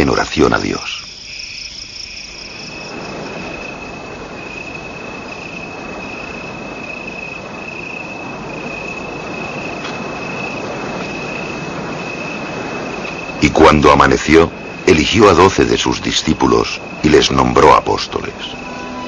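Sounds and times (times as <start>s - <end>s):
crickets trilling: 0.0s - 19.0s
even rushing noise: 2.4s - 19.0s.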